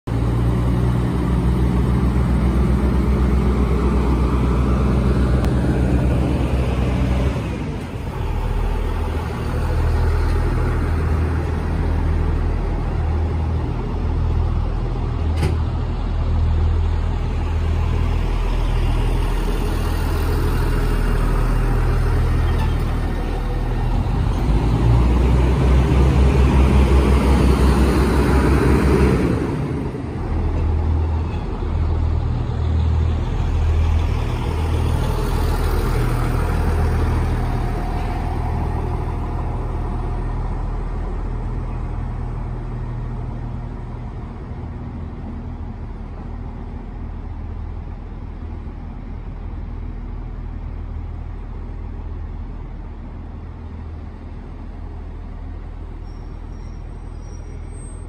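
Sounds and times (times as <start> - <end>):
diesel railcar engine drone: 0.1 - 58.0.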